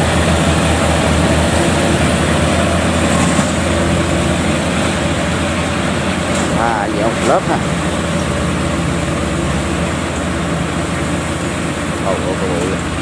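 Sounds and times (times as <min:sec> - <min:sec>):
harvester engine running: 0:00.0 - 0:13.0.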